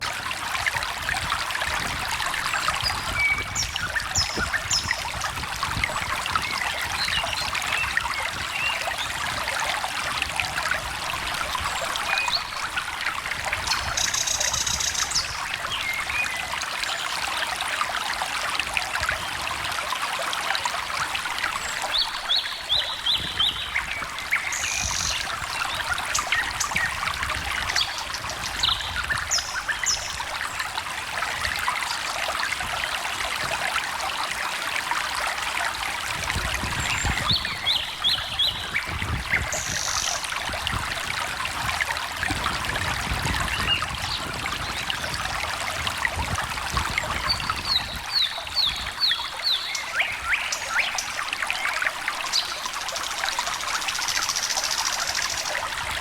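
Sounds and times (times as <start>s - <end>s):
stream trickling and babbling: 0.0s - 56.0s.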